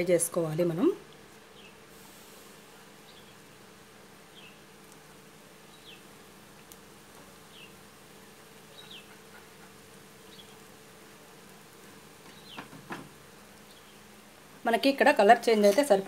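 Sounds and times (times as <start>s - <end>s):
faint buzzing hum: 0.0s - 16.0s.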